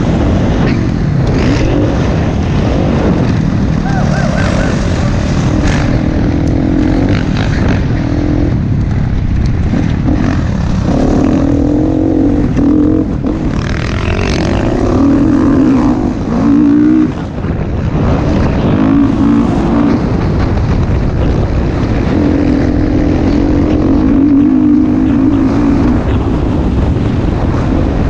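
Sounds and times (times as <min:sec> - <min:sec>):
dirt bike engine revving: 0:00.0 - 0:27.5.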